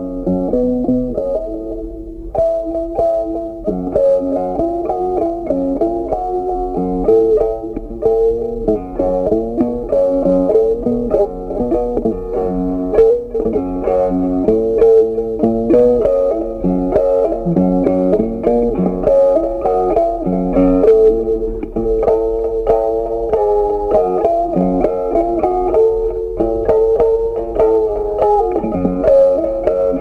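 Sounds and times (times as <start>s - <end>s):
plucked guitar music: 0.0s - 30.0s.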